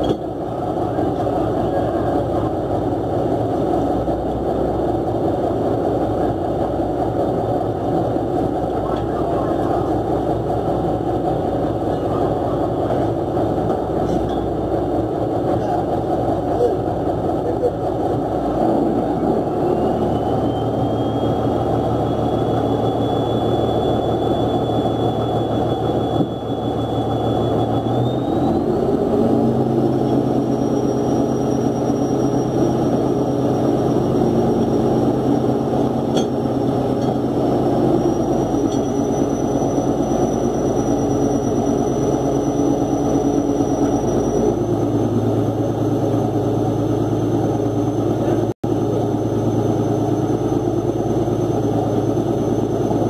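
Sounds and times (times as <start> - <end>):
boat engine running with whine: 0.0 - 53.0.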